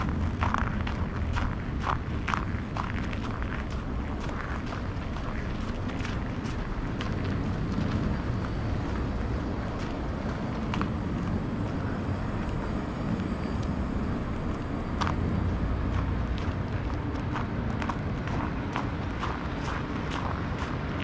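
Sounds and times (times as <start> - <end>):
city street traffic rumble: 0.0 - 21.0.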